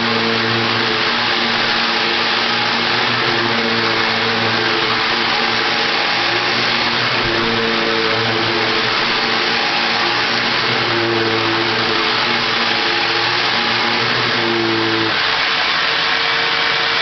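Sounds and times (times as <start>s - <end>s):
vacuum cleaner air rushing: 0.0s - 17.0s
vacuum motor hum: 0.0s - 17.0s.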